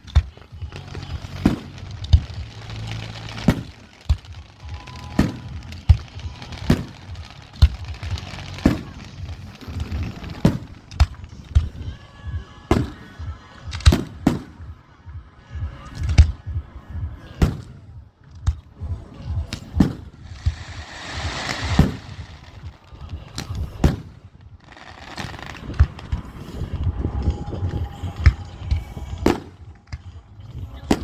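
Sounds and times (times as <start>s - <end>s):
fireworks bangs: 0.0s - 31.0s
fireworks hissing and crackling: 0.0s - 31.0s.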